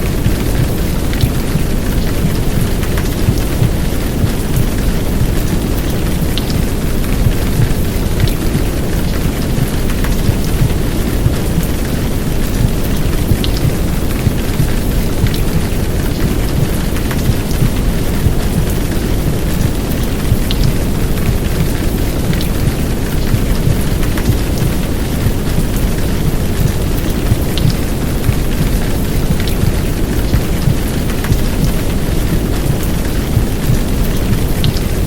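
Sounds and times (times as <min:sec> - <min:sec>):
heavy rain: 0:00.0 - 0:35.0
drops ticking: 0:00.1 - 0:35.0.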